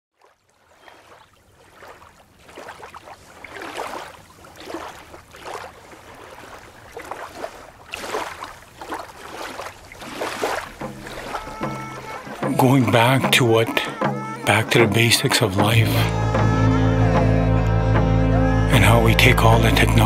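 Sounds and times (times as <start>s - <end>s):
small waves lapping on shore: 0.1s - 16.4s.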